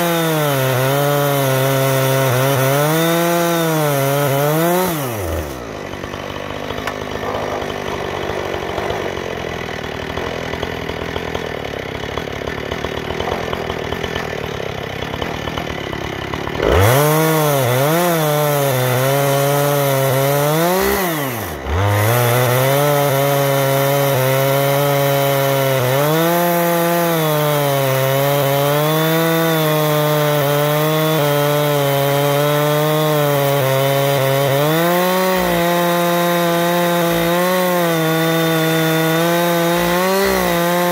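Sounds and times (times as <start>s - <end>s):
chainsaw ripping a log: 0.0s - 40.9s.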